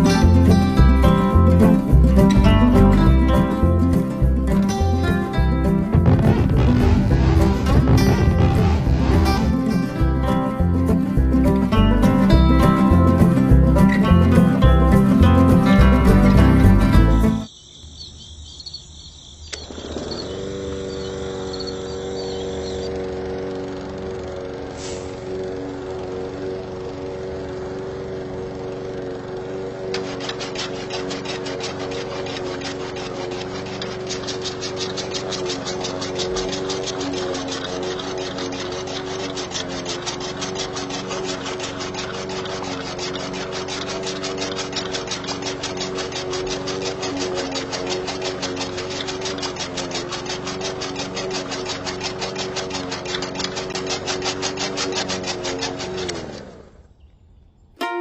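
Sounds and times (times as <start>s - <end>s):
fast fine rattling: 0.0s - 17.5s, 19.7s - 56.9s
small motor humming: 0.0s - 17.5s, 19.5s - 57.7s.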